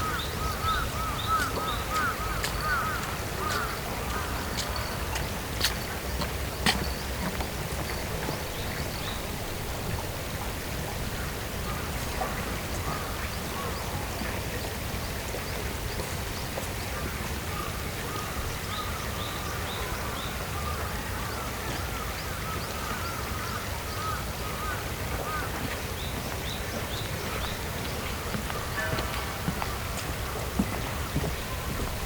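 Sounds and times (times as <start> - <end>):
birds chirping: 0.0 - 9.9, 11.0 - 32.0
rushing water: 0.0 - 32.0.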